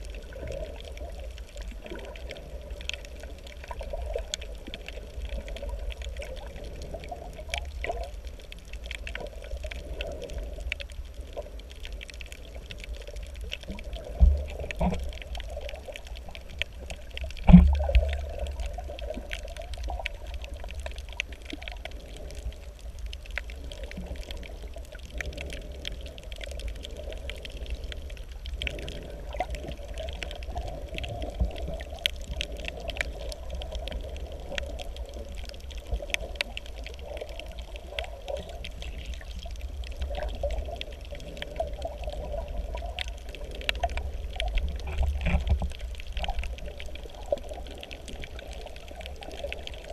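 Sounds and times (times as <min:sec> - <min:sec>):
faint clicks and crackles: 0:00.0 - 0:49.9
underwater water rumble: 0:00.0 - 0:49.9.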